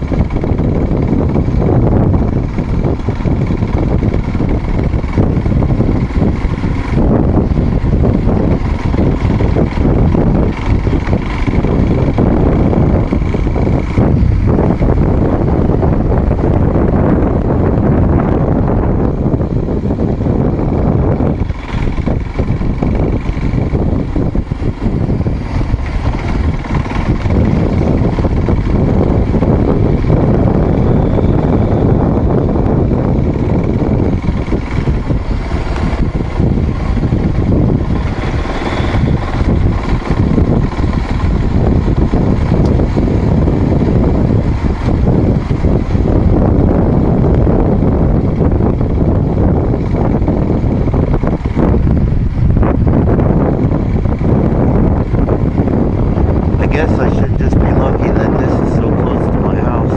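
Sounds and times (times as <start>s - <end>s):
vehicle engine and road noise: 0.0s - 59.9s
wind buffeting microphone: 0.0s - 59.9s.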